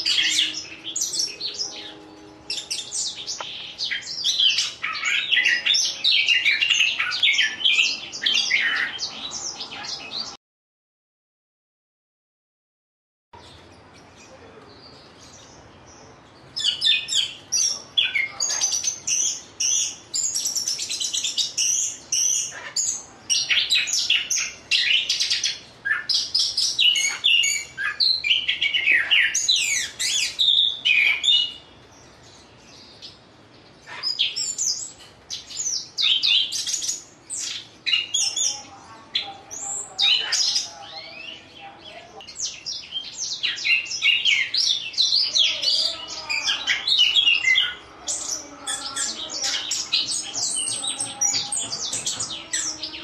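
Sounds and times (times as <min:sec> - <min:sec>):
thrush singing high chirps and trills: 0:00.0 - 0:10.4, 0:15.0 - 0:53.0.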